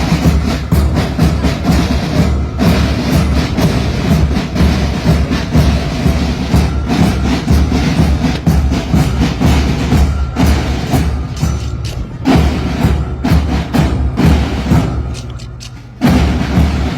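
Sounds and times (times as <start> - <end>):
marching band drums: 0.0 - 16.9.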